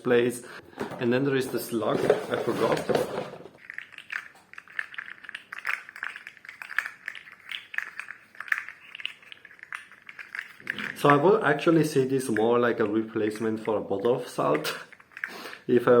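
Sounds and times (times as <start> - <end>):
plastic toy clicking and rattling: 2.0 - 15.7.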